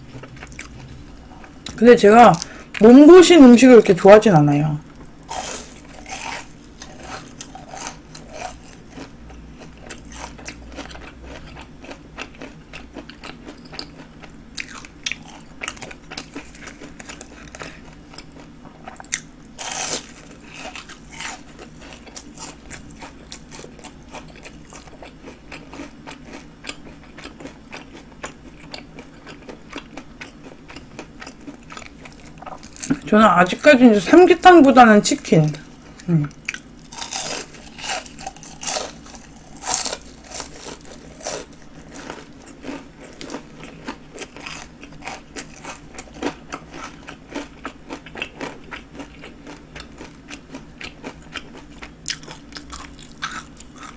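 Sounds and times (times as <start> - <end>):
crunchy food bitten and chewed: 5.0 - 33.6, 35.5 - 53.9.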